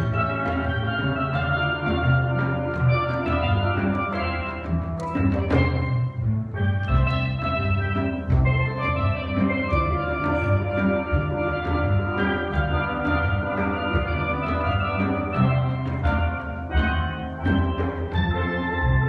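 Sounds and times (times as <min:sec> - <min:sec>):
steel band playing: 0:00.0 - 0:19.0.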